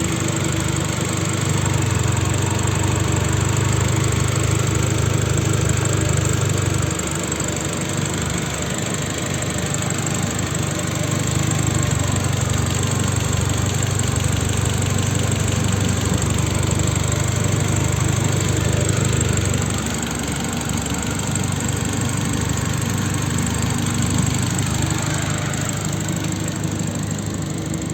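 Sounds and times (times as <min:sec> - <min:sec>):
car engine running: 0:00.0 - 0:27.9.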